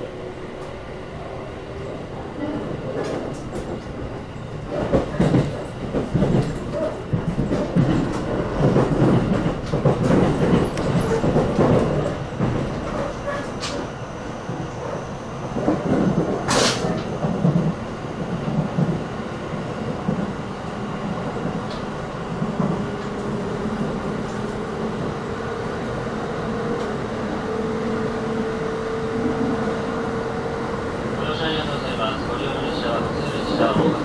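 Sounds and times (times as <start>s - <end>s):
train rumble with wheel knocks: 0.0s - 34.0s.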